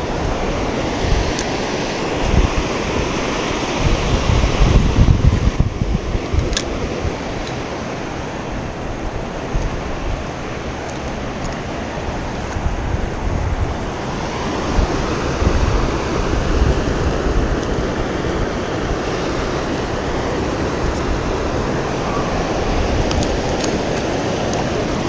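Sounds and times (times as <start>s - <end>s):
ocean surf washing onto beach: 0.0s - 25.0s
wind buffeting microphone: 0.0s - 25.0s.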